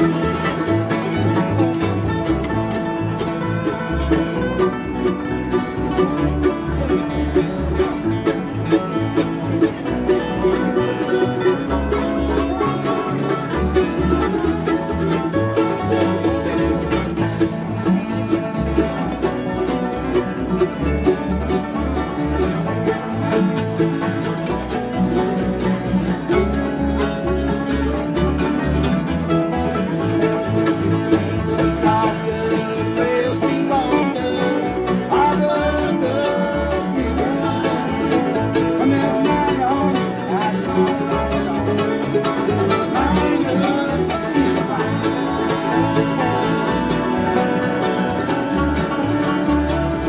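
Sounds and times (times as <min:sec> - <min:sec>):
banjo: 0:00.0 - 0:50.0
guitar: 0:00.0 - 0:50.0.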